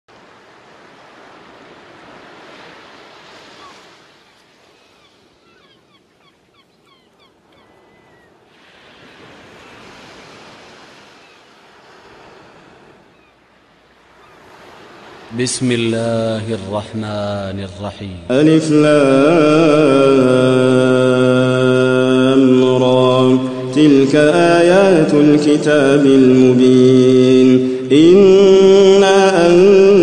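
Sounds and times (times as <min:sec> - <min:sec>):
ocean waves washing in: 0:00.1 - 0:30.0.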